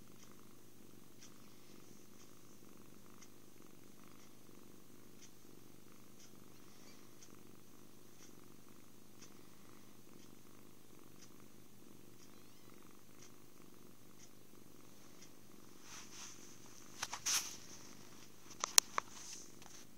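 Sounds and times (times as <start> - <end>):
kitten purring: 0.0 - 19.9.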